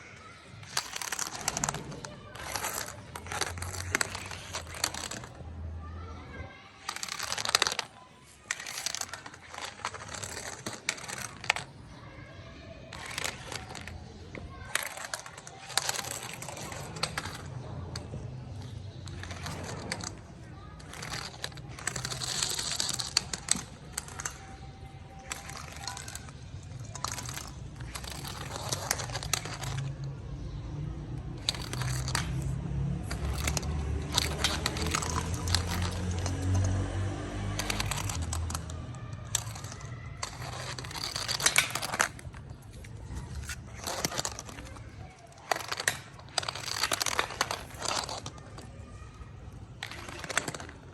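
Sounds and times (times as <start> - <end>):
small hard objects clicking and rattling: 0.0 - 50.9.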